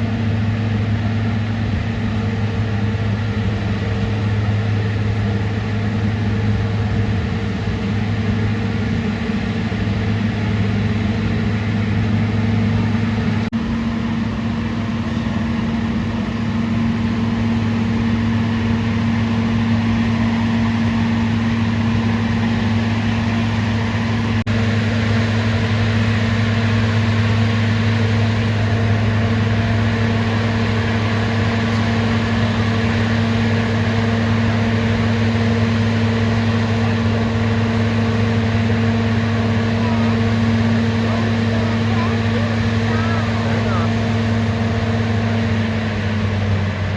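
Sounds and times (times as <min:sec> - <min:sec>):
locomotive engine droning: 0:00.0 - 0:46.9.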